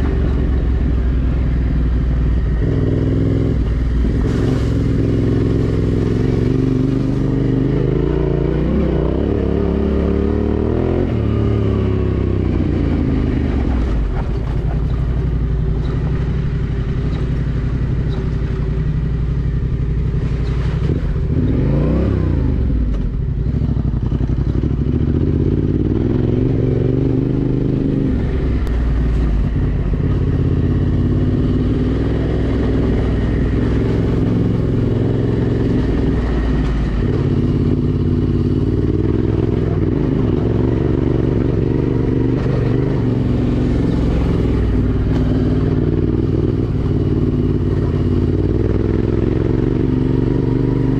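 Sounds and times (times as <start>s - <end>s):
motorcycle engine running: 0.0s - 50.9s
engine revving: 2.1s - 50.9s.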